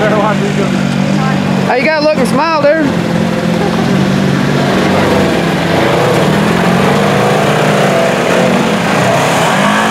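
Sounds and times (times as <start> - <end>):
off-road vehicle engine revving: 0.0 - 9.9.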